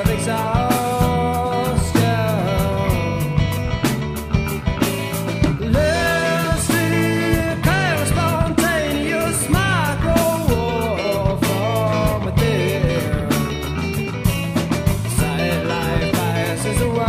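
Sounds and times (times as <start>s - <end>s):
person singing: 0.0s - 4.0s, 5.5s - 14.0s, 15.0s - 17.0s
rock band playing: 0.0s - 17.0s.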